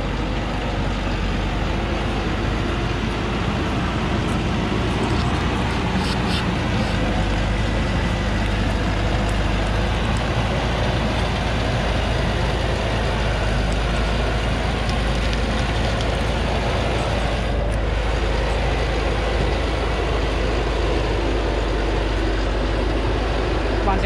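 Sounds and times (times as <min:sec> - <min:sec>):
truck engine rumbling under load: 0:00.0 - 0:24.0.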